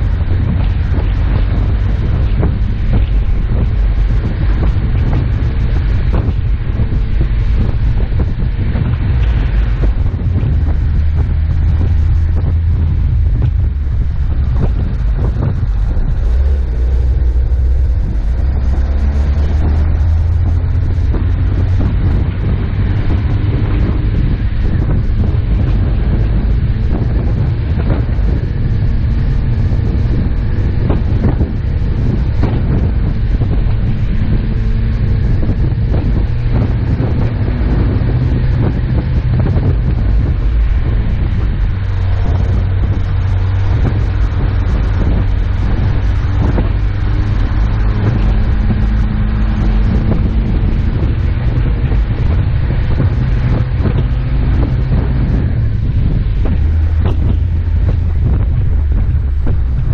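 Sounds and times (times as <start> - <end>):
engine and road rumble: 0.0 - 59.9
wind on microphone: 0.0 - 59.9.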